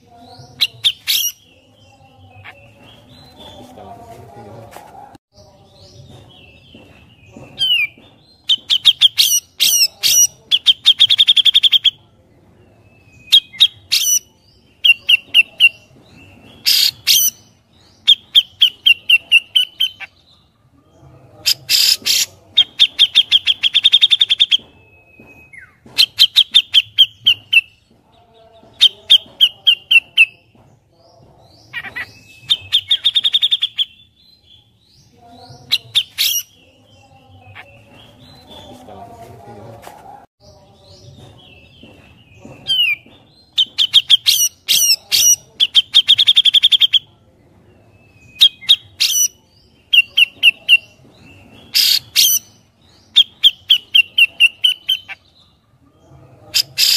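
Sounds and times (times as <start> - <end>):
bulbul singing rapid chattering: 0.0 - 3.9, 5.7 - 12.0, 13.0 - 20.2, 21.4 - 24.9, 25.5 - 27.9, 28.7 - 30.8, 31.4 - 39.0, 40.8 - 47.1, 48.1 - 55.2.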